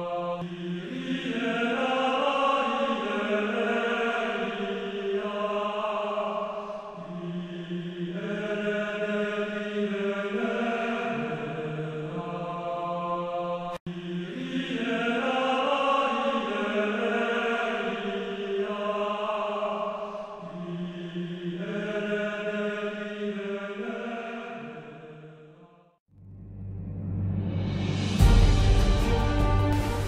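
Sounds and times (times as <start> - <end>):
slow chant-like vocal music: 0.0 - 26.0.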